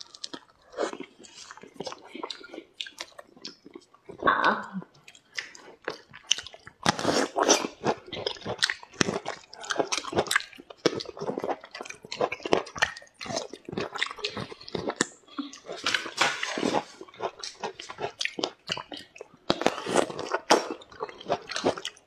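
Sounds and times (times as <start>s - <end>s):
biting and chewing fruit: 0.0s - 22.0s.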